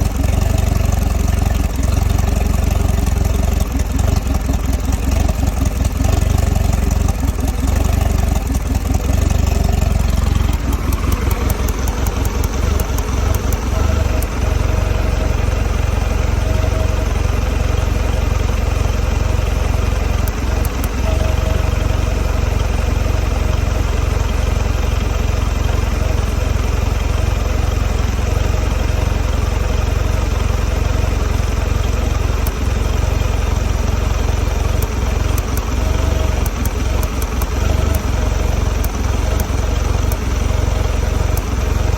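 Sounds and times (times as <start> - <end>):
outboard engine idling: 0.0 - 41.9.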